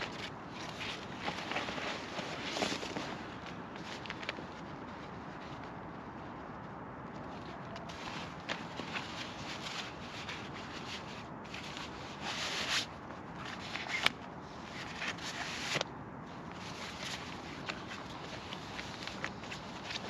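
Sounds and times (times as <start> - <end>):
rustling and scraping: 0.0 - 20.0.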